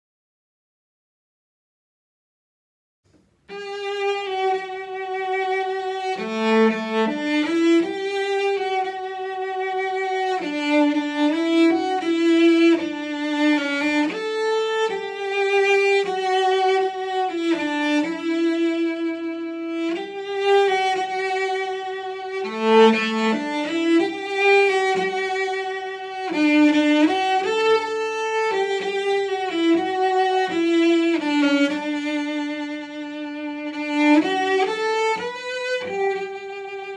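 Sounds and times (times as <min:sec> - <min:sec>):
bowed cello melody: 0:03.5 - 0:36.9.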